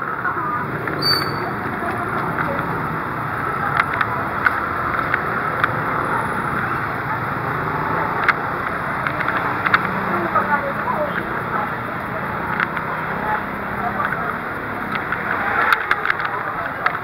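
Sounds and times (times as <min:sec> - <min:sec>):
motorcycles passing: 0:00.0 - 0:17.0.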